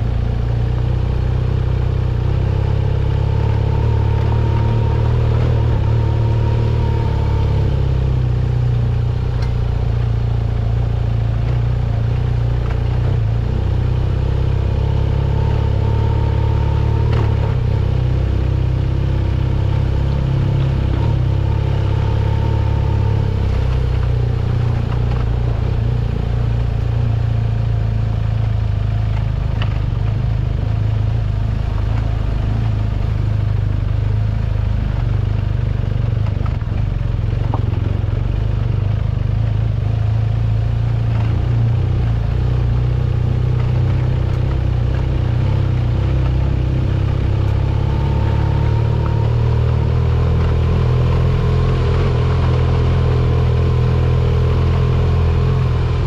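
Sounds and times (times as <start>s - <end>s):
vehicle engine under load: 0.0s - 56.0s.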